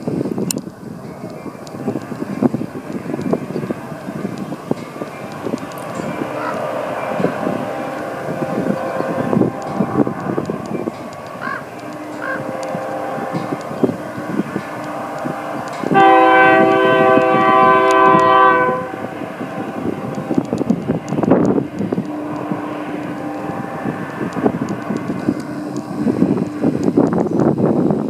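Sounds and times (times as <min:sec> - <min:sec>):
train clicks and clanks: 0:00.0 - 0:28.0
train rumbling: 0:00.0 - 0:28.0
locomotive air horn blast: 0:03.4 - 0:27.4.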